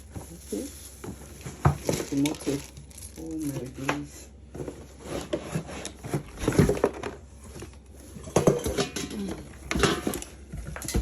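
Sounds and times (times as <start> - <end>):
knocks and rustling of packaging: 0.0 - 11.0.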